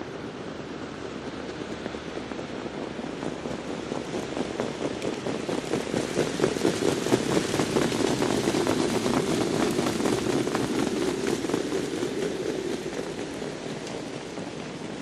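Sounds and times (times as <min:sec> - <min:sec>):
steady rushing noise: 0:00.0 - 0:15.0
patter of hoofbeats: 0:01.0 - 0:15.0.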